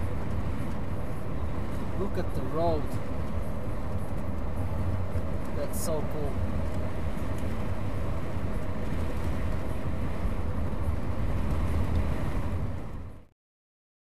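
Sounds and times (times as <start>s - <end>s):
tyre and drivetrain rumble: 0.0s - 13.3s.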